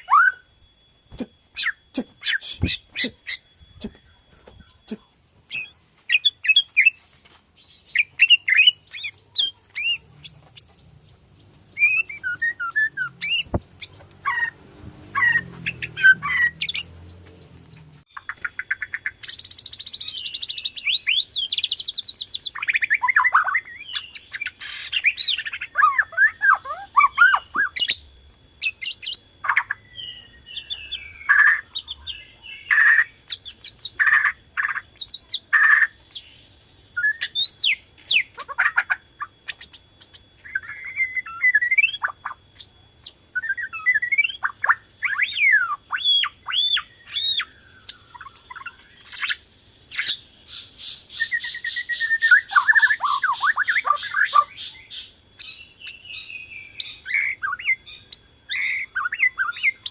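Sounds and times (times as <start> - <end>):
bird singing whistles and trills: 0.0 - 59.9.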